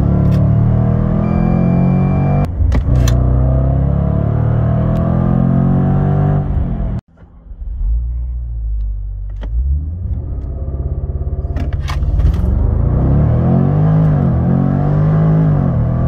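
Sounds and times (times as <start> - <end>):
car engine revving and accelerating: 0.0 - 8.8, 9.4 - 16.0.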